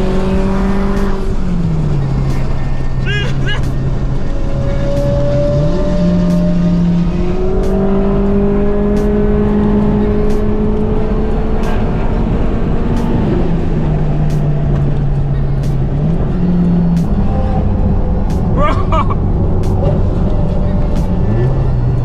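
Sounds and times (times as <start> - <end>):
car engine drone: 0.0 - 22.0
road noise: 0.0 - 22.0.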